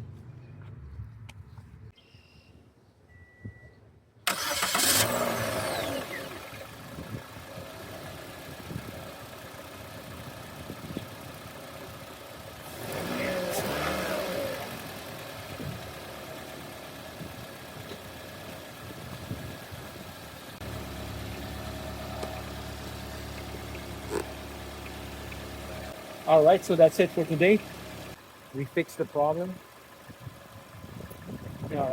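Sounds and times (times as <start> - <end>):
car engine idling: 4.3 - 31.9.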